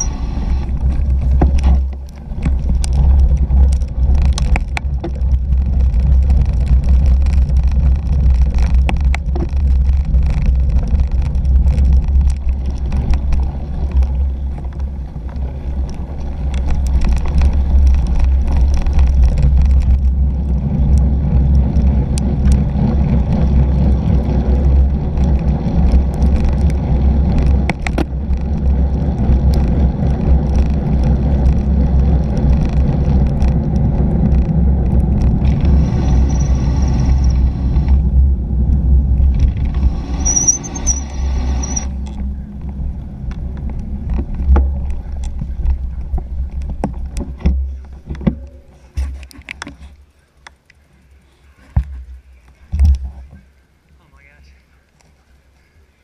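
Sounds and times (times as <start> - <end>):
wind buffeting microphone: 0.0 - 48.3
bicycle tyres rolling on pavement: 0.0 - 56.0.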